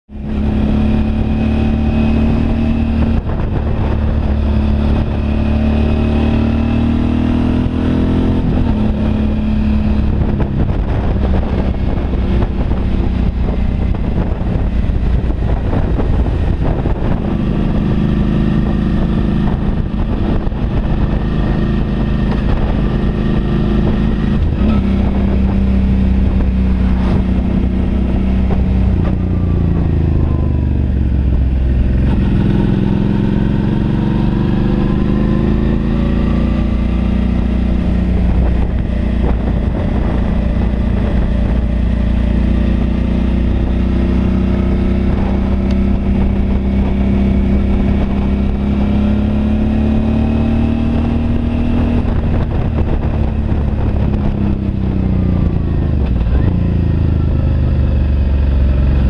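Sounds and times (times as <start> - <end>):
motorcycle engine running: 0.1 - 59.0.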